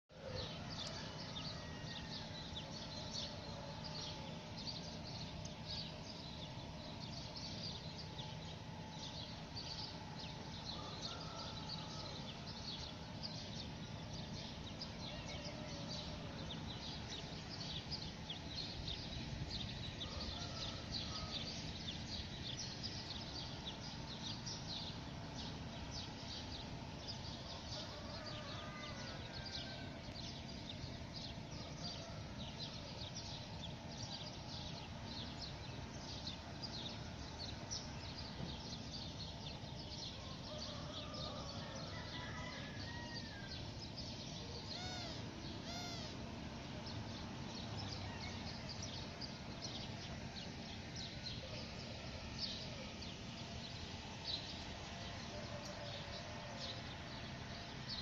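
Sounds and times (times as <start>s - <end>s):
birds chirping: 0.1s - 58.0s
low steady hum: 0.1s - 58.0s.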